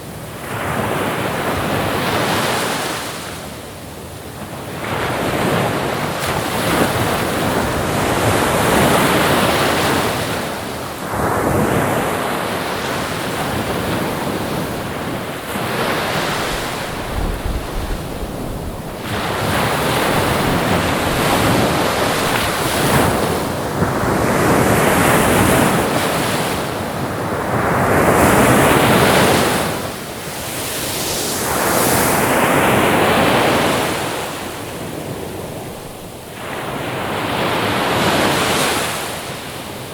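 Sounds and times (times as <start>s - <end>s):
ocean waves breaking on shore: 0.0s - 39.9s
wind: 0.0s - 39.9s.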